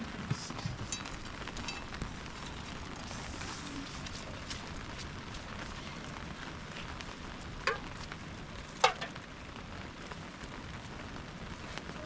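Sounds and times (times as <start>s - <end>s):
rain hissing: 0.0s - 12.0s
wood fire crackling: 0.0s - 12.0s.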